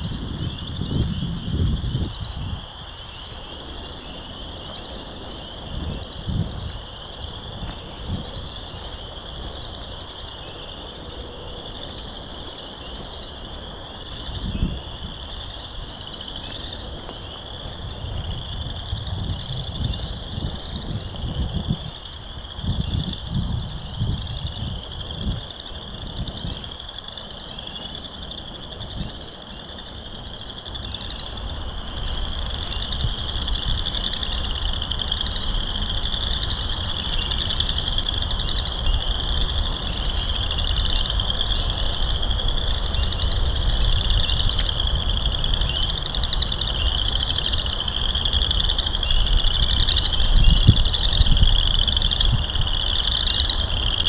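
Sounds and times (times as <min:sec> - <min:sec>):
frogs trilling in chorus: 0:00.0 - 0:54.0
wind rumble on microphone: 0:00.0 - 0:54.0.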